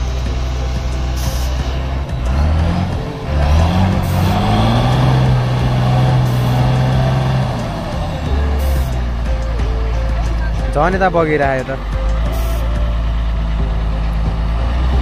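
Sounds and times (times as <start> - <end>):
faint music: 0.0 - 15.0
truck engine revving: 0.0 - 15.0.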